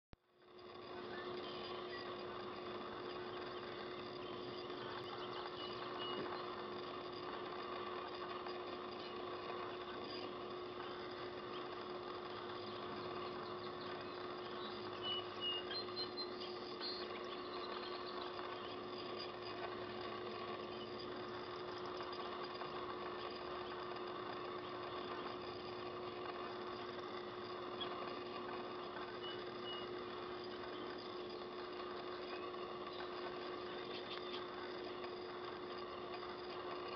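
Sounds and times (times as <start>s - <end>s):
steady mechanical hum: 0.2s - 36.9s.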